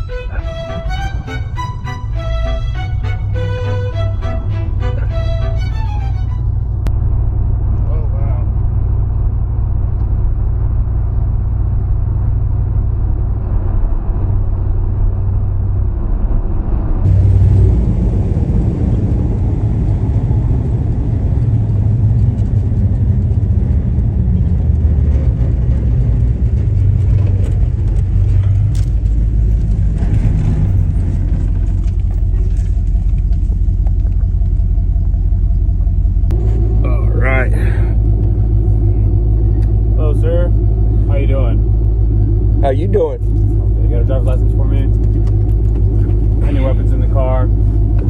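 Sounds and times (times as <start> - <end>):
truck engine rumbling: 0.0 - 48.0.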